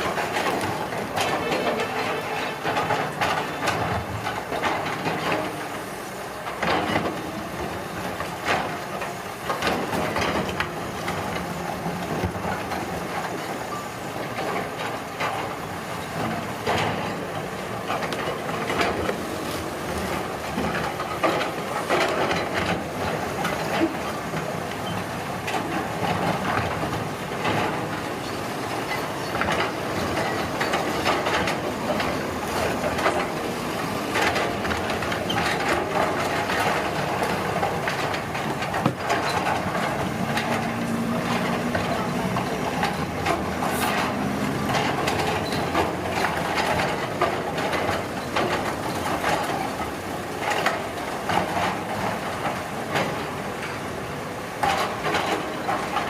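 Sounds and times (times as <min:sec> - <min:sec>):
heavy construction machinery running: 0:00.0 - 0:56.0.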